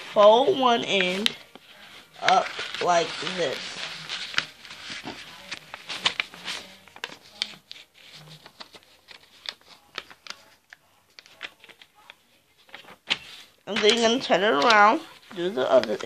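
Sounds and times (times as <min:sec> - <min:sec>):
paper folding and crinkling: 0:00.0 - 0:16.0.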